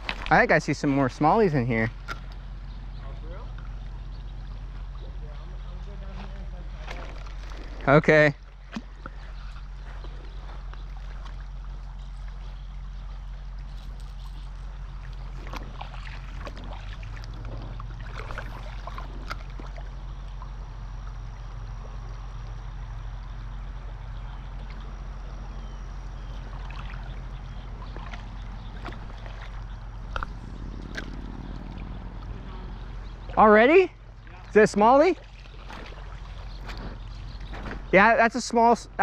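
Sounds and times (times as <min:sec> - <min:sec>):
creek water running: 0:00.0 - 0:39.0.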